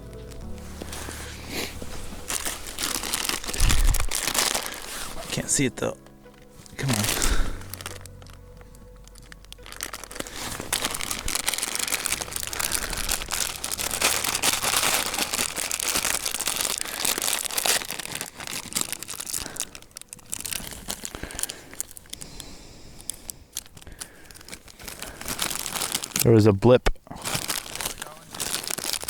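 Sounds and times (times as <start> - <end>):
thin material crinkling: 0.0 - 26.4, 27.1 - 29.0.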